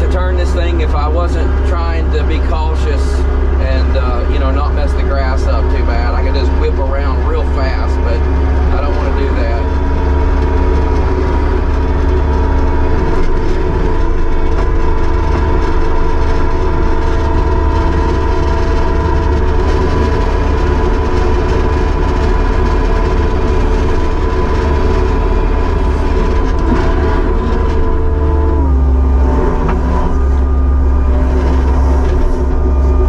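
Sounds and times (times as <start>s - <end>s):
diesel engine rumbling: 0.0s - 33.0s
hydraulic whine: 0.0s - 33.0s.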